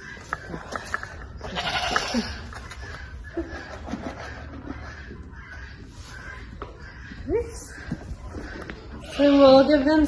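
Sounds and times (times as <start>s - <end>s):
farm animals honking: 0.0s - 10.0s.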